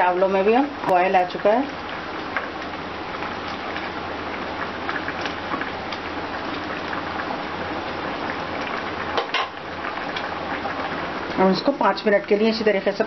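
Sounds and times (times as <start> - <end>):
rice boiling with bubbling pops: 0.0 - 13.0.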